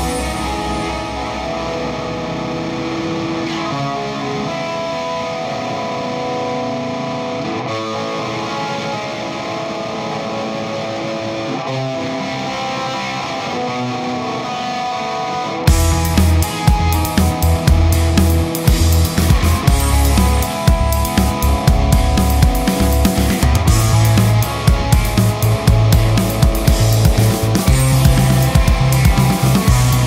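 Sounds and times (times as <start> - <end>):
rock music with electric guitar: 0.0 - 30.0.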